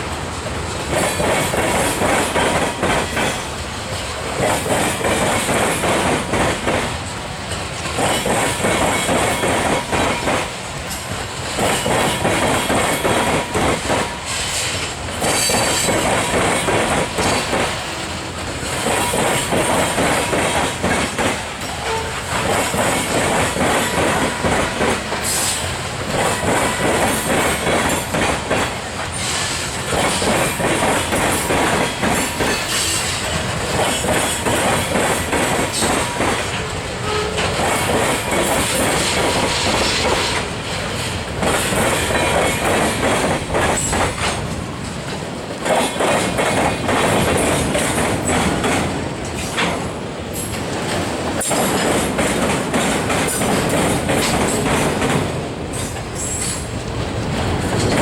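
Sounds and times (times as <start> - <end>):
train wheels clacking over rail joints: 0.0 - 58.0.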